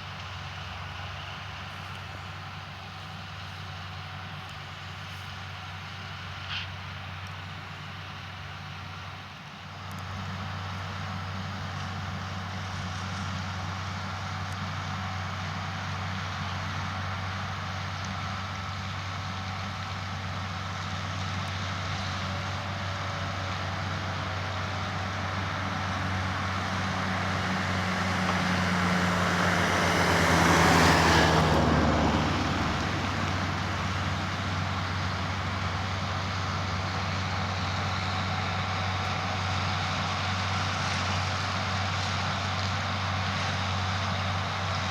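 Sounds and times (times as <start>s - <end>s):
harvester engine running: 0.0s - 44.9s
tractor engine running: 0.0s - 44.9s.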